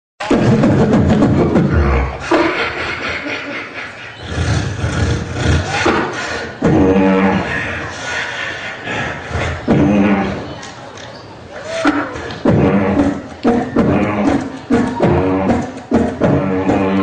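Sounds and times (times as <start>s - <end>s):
beatboxing into microphone: 0.2s - 17.0s.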